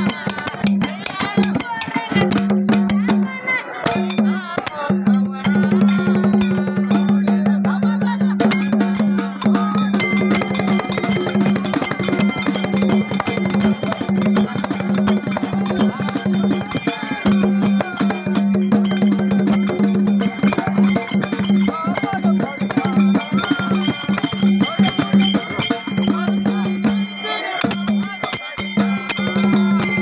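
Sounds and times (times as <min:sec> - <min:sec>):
fast hand drumming: 0:00.0 - 0:30.0.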